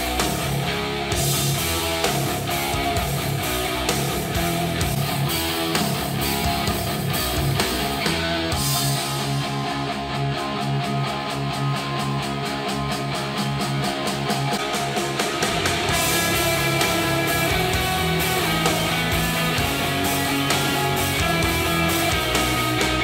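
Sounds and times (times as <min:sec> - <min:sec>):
guitar song over speakers: 0:00.0 - 0:23.0.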